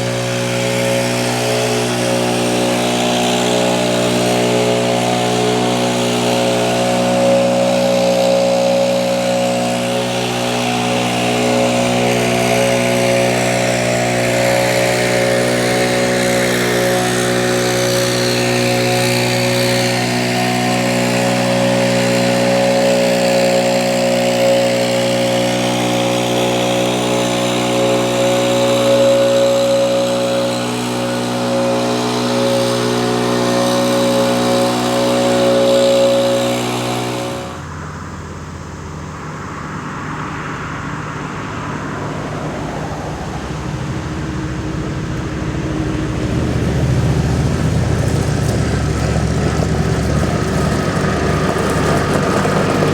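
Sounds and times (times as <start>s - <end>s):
tractor diesel engine running: 0.0s - 39.1s, 43.6s - 52.9s.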